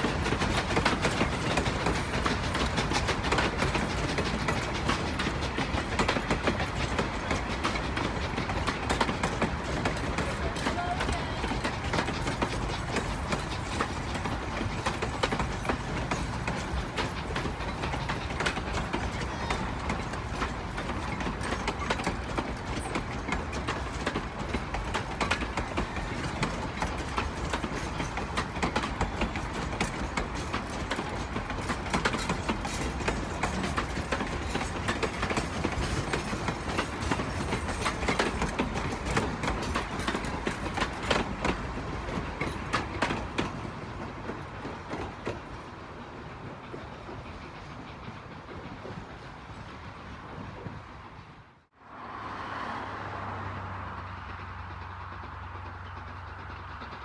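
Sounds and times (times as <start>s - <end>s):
wheel clicks over rails: 0.0s - 45.7s
train rolling along track: 0.0s - 57.0s.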